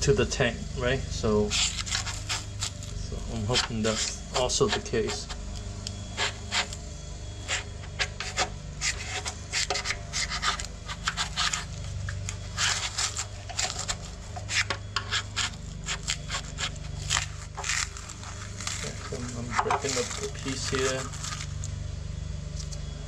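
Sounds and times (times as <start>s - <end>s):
screwdriver scraping foam: 1.4s - 5.4s, 6.1s - 6.8s, 7.4s - 21.7s.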